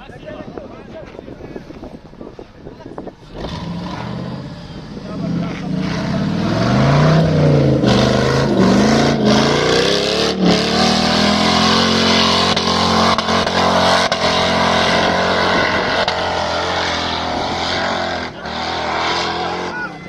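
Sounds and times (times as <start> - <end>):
off-road vehicle engine revving: 3.1 - 20.0.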